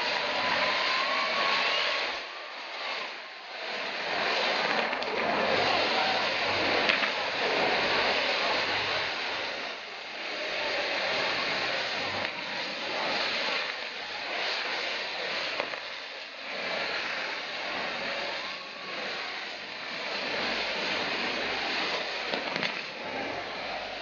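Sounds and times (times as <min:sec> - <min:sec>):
ground fireworks hissing and crackling: 0:00.0 - 0:24.0
sharp firework cracks: 0:00.0 - 0:24.0.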